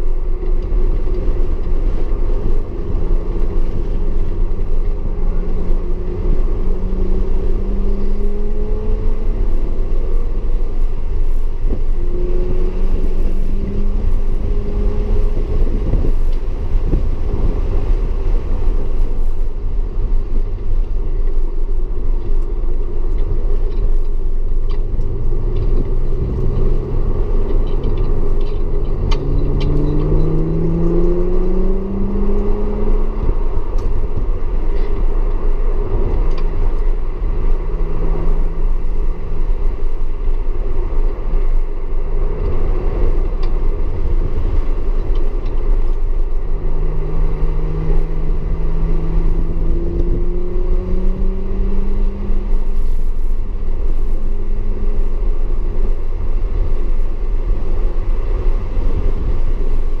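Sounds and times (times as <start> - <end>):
car engine under load: 0.0 - 60.0
road and rain rumble: 0.0 - 60.0.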